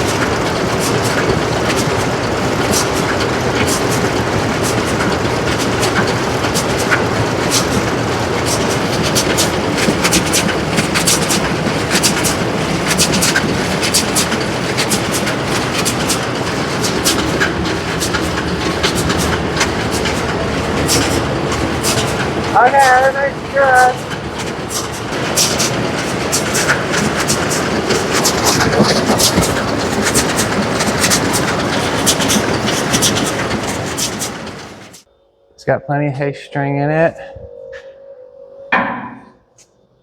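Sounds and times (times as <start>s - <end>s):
baler running: 0.0s - 35.0s
drive chains clattering: 0.0s - 35.0s.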